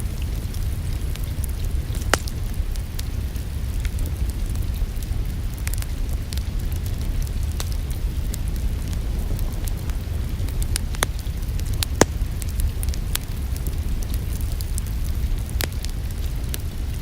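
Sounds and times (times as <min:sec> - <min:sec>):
rain hissing: 0:00.0 - 0:17.0
wood fire crackling: 0:00.0 - 0:17.0.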